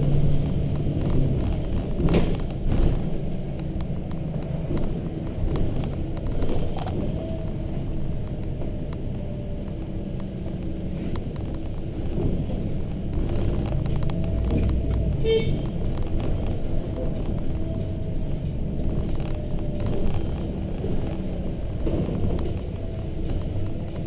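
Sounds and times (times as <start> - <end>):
bus diesel engine rumble: 0.0 - 24.0.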